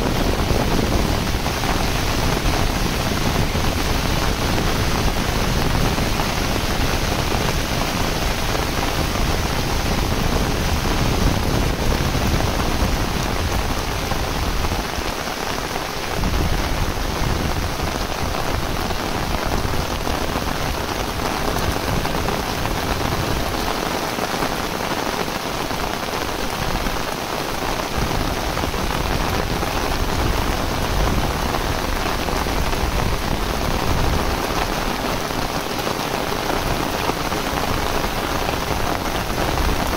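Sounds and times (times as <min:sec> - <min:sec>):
heavy rain on concrete and plants: 0:00.0 - 0:39.9.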